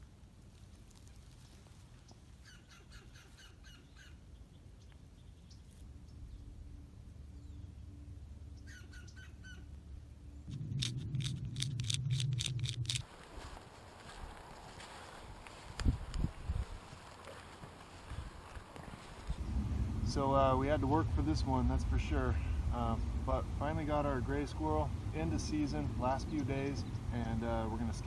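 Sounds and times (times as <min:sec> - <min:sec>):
low steady rumble: 0:04.4 - 0:28.0.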